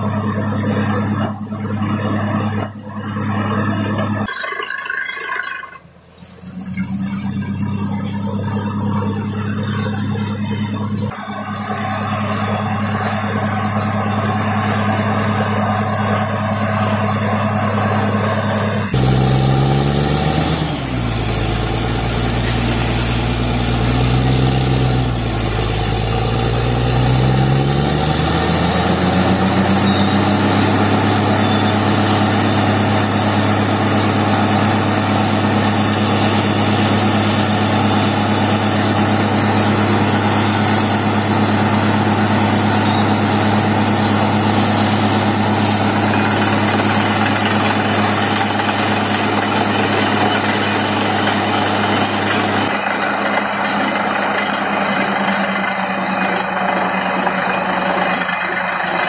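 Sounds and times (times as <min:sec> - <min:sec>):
drilling rig engine running: 0:00.0 - 0:59.0.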